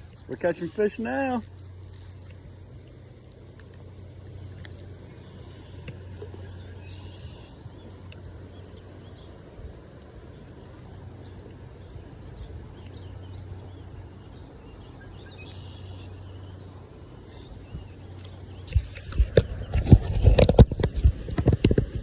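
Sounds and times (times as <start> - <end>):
rushing water haze: 0.0 - 22.0
steady low hum: 0.0 - 22.0.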